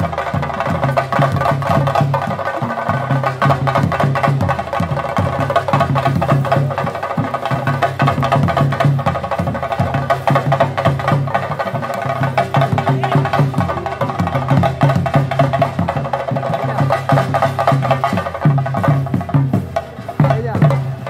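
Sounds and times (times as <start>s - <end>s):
fast drumming with sticks: 0.0s - 21.0s.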